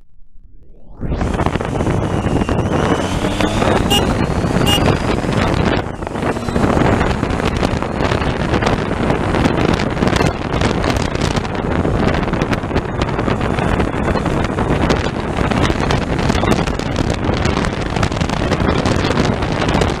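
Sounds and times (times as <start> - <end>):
motorcycle engine and tyre noise: 0.6 - 20.0
wind buffeting microphone: 0.7 - 20.0.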